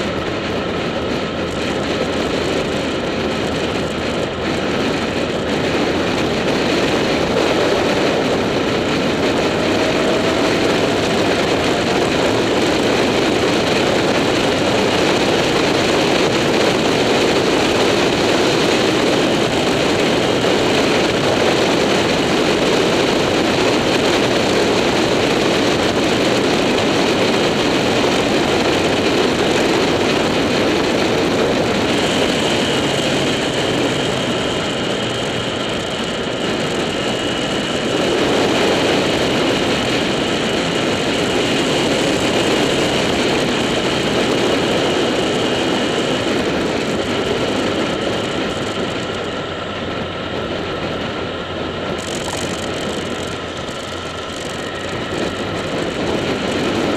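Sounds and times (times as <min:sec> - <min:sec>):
motorcycle engine running: 0:00.0 - 0:56.9
wind rushing over camera: 0:00.0 - 0:56.9.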